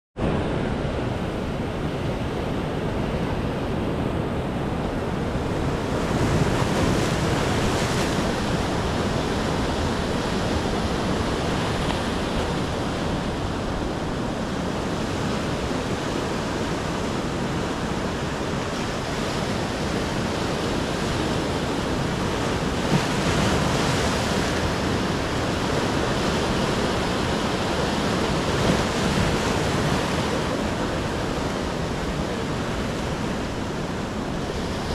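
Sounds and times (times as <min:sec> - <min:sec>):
waves breaking on rocky shore: 0:04.2 - 0:34.9.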